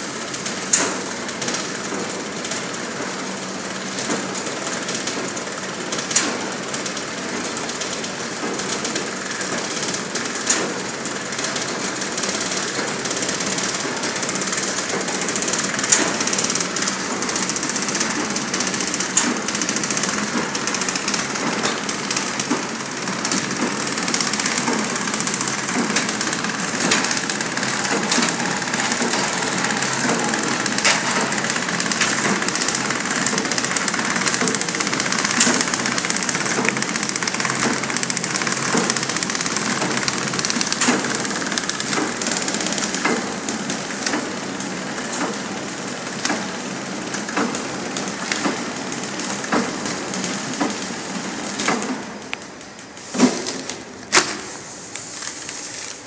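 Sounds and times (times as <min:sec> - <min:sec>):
packing machine clattering: 0:00.0 - 0:56.0.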